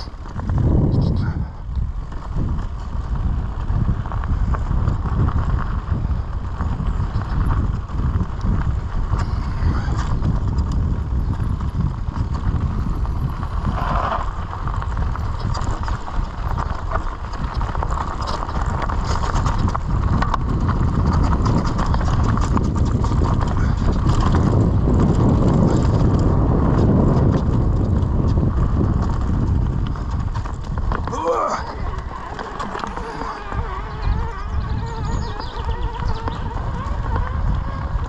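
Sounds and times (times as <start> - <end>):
bike rattling over bumps: 0.0 - 38.0
bike tyres crunching on stony trail: 0.0 - 38.0
wind rumble on microphone: 0.0 - 38.0.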